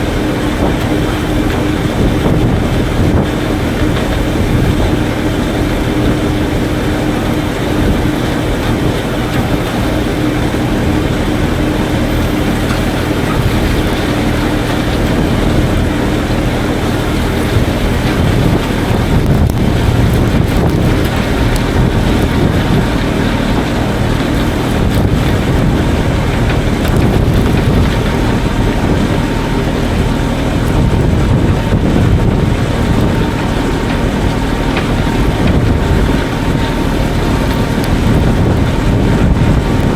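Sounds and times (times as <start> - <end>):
farm machinery humming: 0.0 - 39.9.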